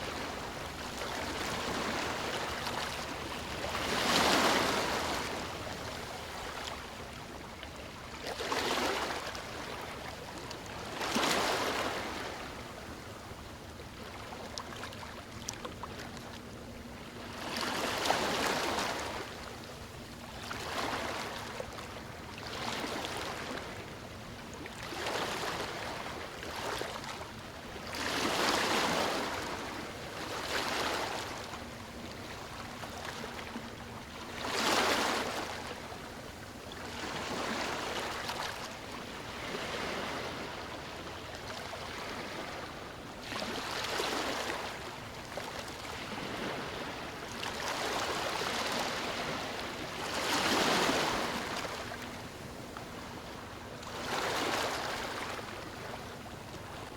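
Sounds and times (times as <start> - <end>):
sea waves breaking on a beach: 0.0 - 56.9.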